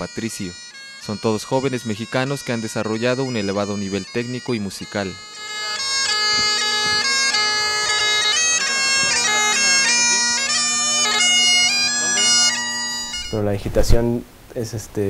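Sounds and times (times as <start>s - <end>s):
bagpipe melody over drone: 0.0s - 13.6s.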